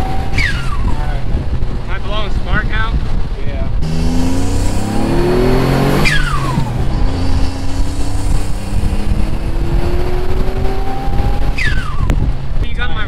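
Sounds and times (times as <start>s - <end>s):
car engine accelerating hard: 0.0s - 2.0s, 3.0s - 12.6s.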